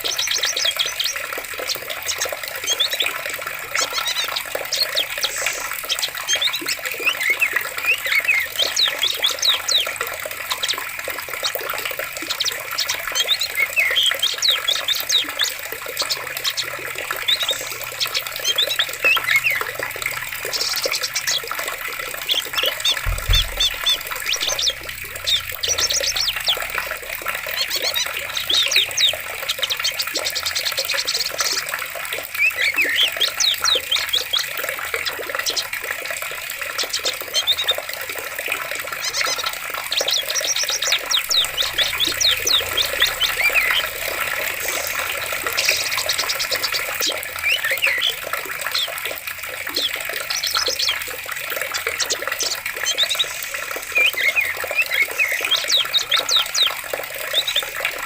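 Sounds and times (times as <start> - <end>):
running water splashing: 0.0 - 58.0
songbirds chirping and trilling: 0.0 - 58.0.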